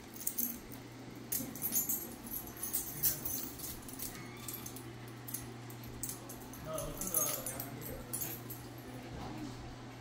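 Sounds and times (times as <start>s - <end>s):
collar tags jingling: 0.0s - 9.0s.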